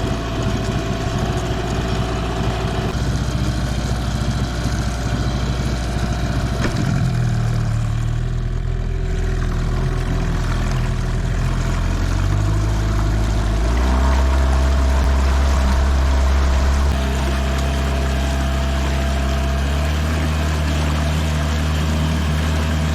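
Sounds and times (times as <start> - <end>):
outboard motor running: 0.0 - 22.9.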